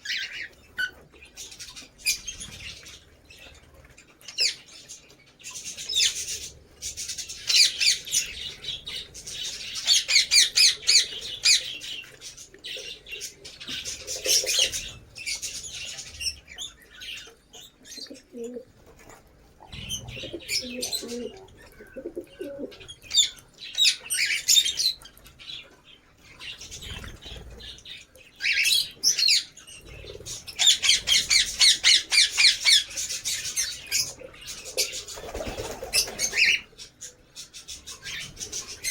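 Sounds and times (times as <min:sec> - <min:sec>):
lovebirds chirping: 0:00.0 - 0:18.8, 0:19.5 - 0:38.9.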